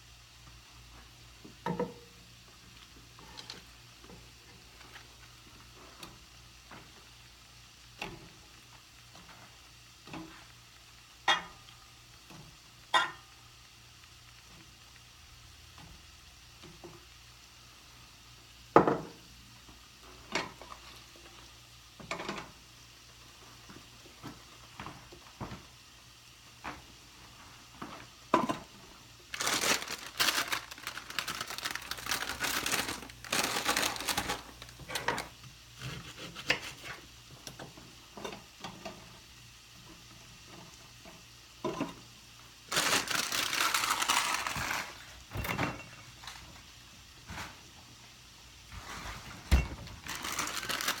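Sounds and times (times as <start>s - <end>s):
sizzling hiss: 0.0s - 45.4s.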